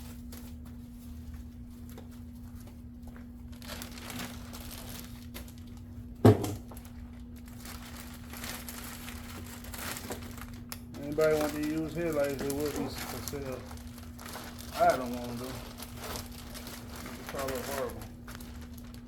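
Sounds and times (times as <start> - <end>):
crinkling and rustling handling noise: 0.0 - 19.0
steady hum: 0.0 - 19.0.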